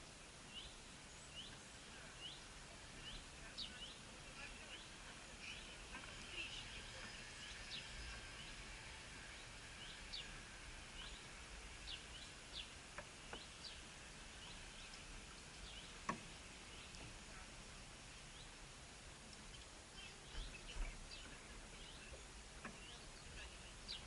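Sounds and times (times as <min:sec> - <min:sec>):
faint bird chirps: 0:00.1 - 0:18.6, 0:19.3 - 0:24.0.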